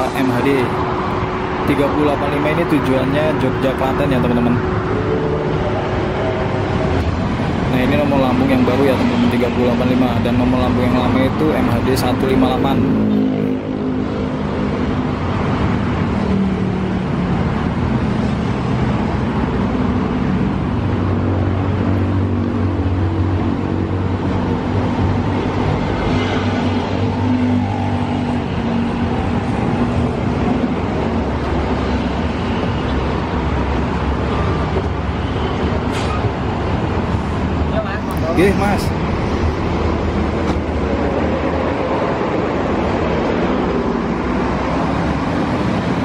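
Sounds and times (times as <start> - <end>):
road traffic passing: 0.0 - 46.0.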